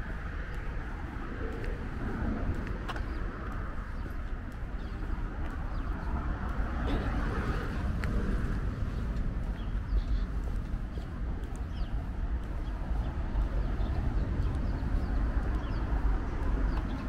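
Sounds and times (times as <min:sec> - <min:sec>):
traffic hum: 0:00.0 - 0:17.0.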